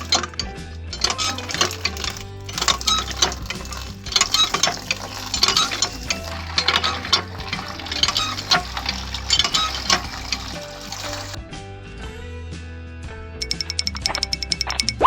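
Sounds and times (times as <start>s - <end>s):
small hard objects clinking: 0.0s - 11.4s, 13.4s - 15.0s.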